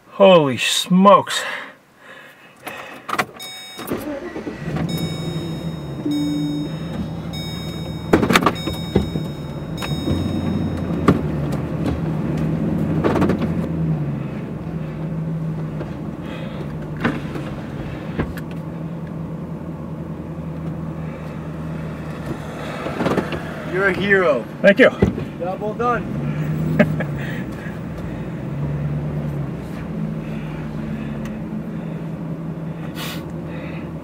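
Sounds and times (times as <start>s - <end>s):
vehicle engine running: 4.7s - 24.6s, 25.2s - 34.0s.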